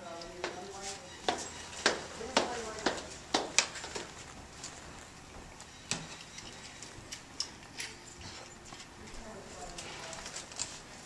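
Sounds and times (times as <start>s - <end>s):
equipment being handled: 0.6s - 11.0s.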